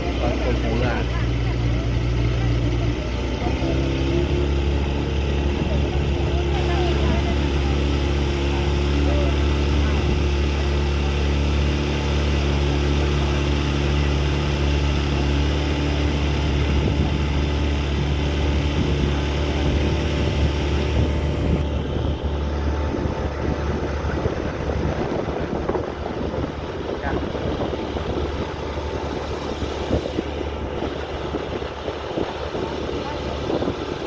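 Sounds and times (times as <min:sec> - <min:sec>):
ferry engine running: 0:00.0 - 0:34.0.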